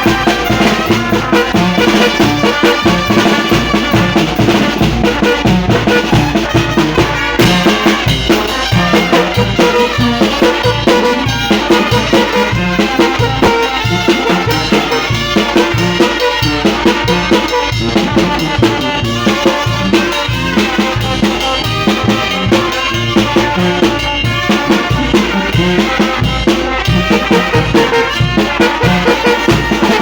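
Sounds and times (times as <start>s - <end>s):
brass band playing: 0.0s - 30.0s
quick drum beat: 0.0s - 30.0s.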